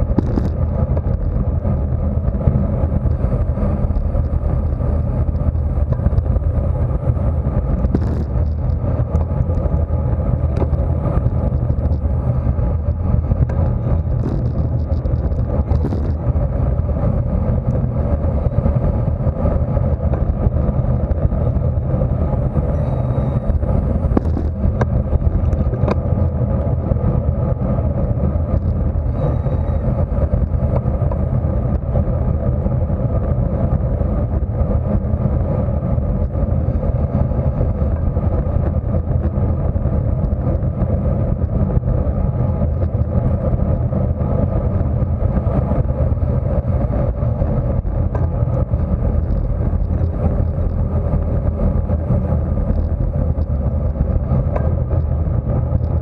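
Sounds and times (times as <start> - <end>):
tyre and road noise: 0.0 - 56.0
wind rush on microphone: 0.0 - 56.0.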